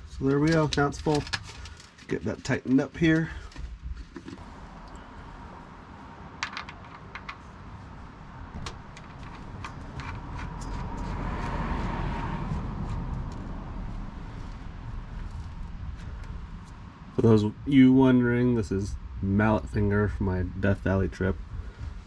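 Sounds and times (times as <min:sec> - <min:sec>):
low background rumble: 0:03.3 - 0:22.0.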